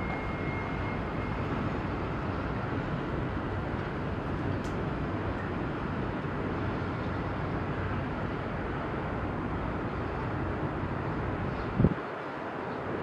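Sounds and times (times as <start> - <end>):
low harbour rumble with hiss: 0.0 - 13.0.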